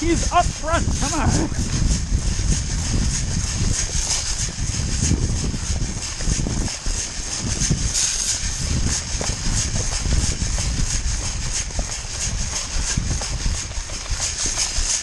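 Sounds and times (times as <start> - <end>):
running footsteps: 0.0 - 15.0
wind rumbling on microphone: 0.0 - 15.0.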